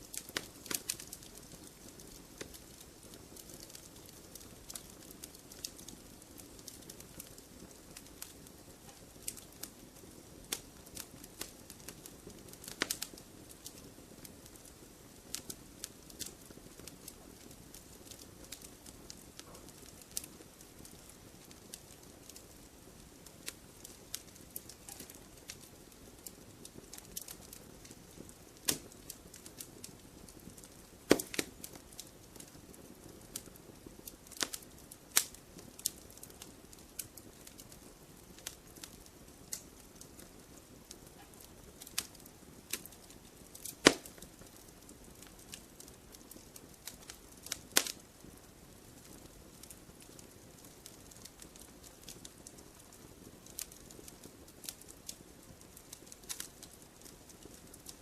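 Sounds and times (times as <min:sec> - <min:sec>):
sharp snaps and pops: 0:00.0 - 0:09.8, 0:10.5 - 0:48.4, 0:49.0 - 0:58.0
wood fire crackling: 0:00.0 - 0:58.0.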